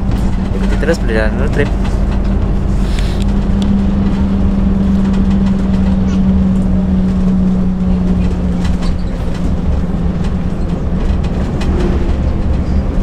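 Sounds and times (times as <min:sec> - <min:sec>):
bus engine and road rumble: 0:00.0 - 0:13.0
steady engine hum: 0:00.0 - 0:13.0.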